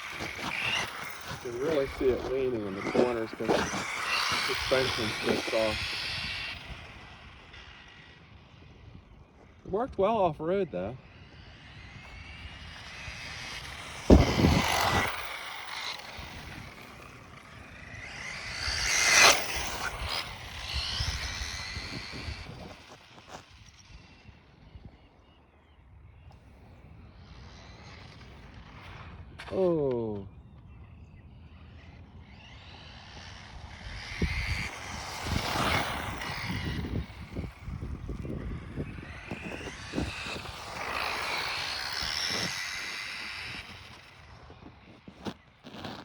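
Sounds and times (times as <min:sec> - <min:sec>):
electric toy car motor whining: 0:00.0 - 0:46.0.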